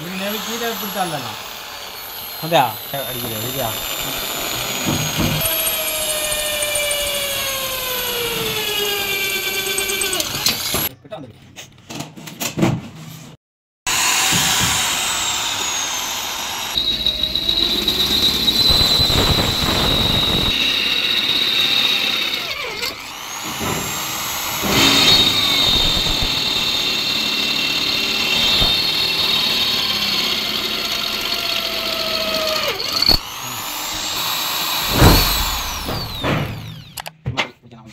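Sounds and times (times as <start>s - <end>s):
drill boring into steel: 0.0s - 10.9s, 13.9s - 37.1s.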